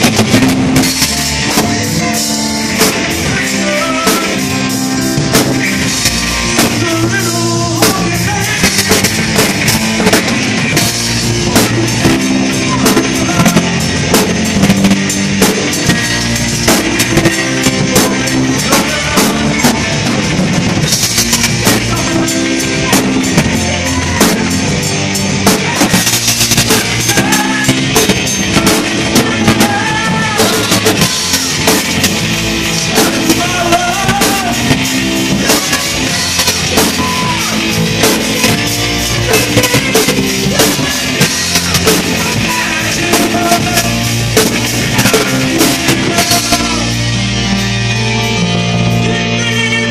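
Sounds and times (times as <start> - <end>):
drum kit beat: 0.0 - 49.9
electric bass notes: 0.0 - 49.9
keyboard: 0.0 - 49.9.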